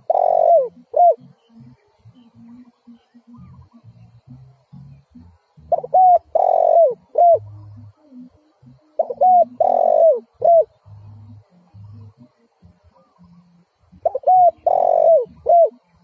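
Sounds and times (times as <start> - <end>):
dove cooing: 0.0 - 16.0
faint low pulsing hum: 0.0 - 16.0.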